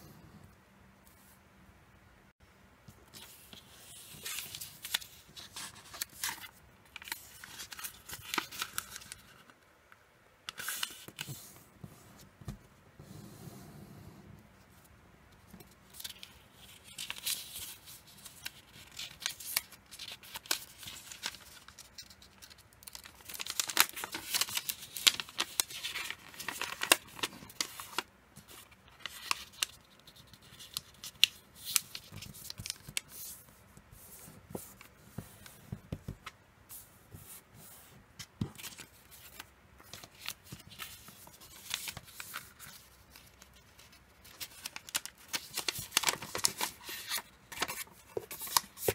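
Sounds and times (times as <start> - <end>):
paper rustling and crinkling: 3.1 - 9.6, 15.9 - 48.9.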